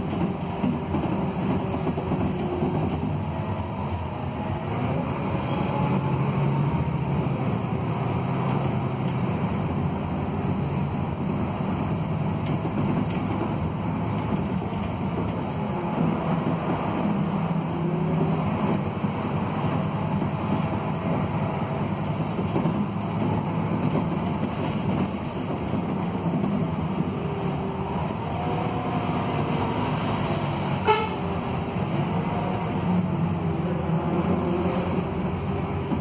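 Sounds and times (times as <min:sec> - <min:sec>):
bus engine rumble inside cabin: 0:00.0 - 0:36.0.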